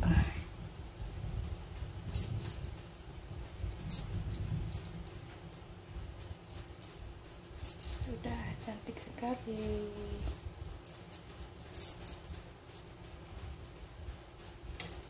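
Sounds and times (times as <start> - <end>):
low rumble of handling: 0.0 - 15.0.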